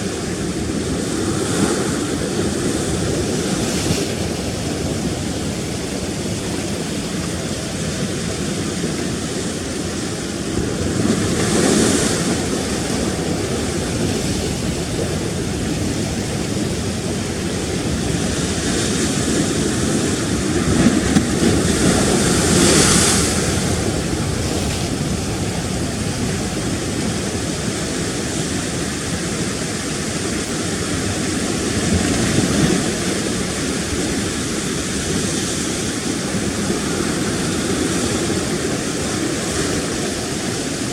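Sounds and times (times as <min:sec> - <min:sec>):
rough sea washing against rocks: 0:00.0 - 0:40.9
waves breaking: 0:00.0 - 0:40.9.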